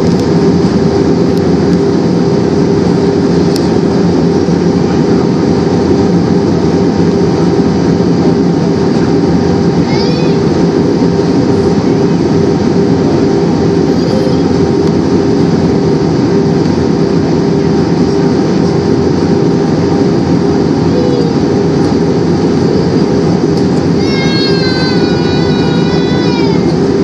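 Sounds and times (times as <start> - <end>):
jet engines drone: 0.0 - 27.0
low hum tones: 0.0 - 27.0
rushing airflow: 0.0 - 27.0.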